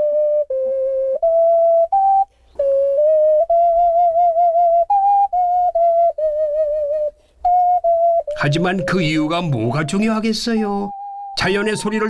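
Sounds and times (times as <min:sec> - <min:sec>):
ocarina playing slow melody: 0:00.0 - 0:12.0.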